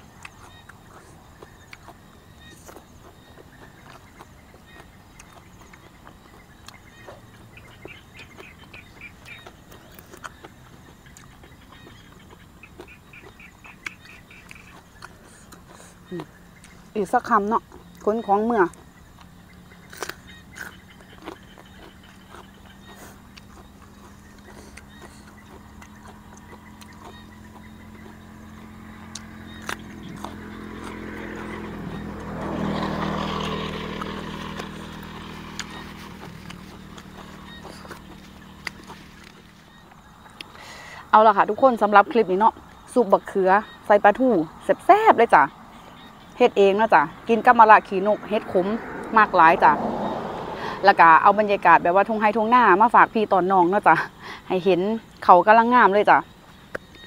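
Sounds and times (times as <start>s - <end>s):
sharp eating clicks: 0.0s - 50.8s, 56.2s - 57.0s
frogs chirping: 0.0s - 57.0s
motor vehicle engine hum: 0.0s - 57.0s.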